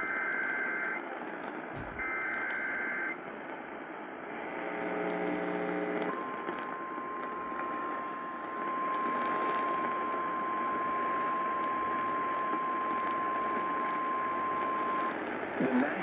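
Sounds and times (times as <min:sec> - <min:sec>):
radio static hiss and crackles: 0:00.0 - 0:16.0.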